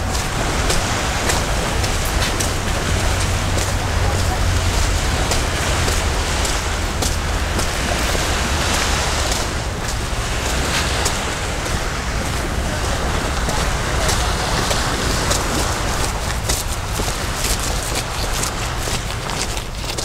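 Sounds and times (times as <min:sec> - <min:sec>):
footsteps: 0:00.0 - 0:20.0
sea: 0:00.0 - 0:20.0
wind: 0:00.0 - 0:20.0.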